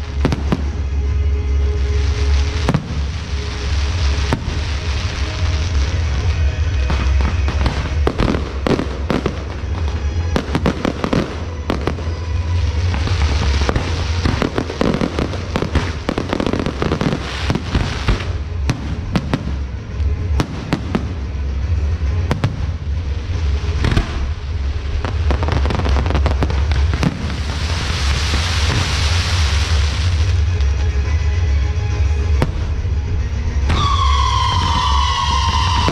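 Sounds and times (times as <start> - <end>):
fireworks bangs and cracks: 0.0 - 35.9
fireworks hissing crackle: 0.0 - 35.9
music: 0.0 - 35.9.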